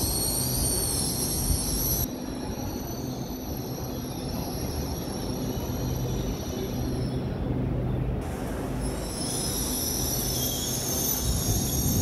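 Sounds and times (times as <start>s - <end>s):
wheel squeal: 0.0s - 7.3s, 8.8s - 12.0s
train rumble: 0.0s - 12.0s.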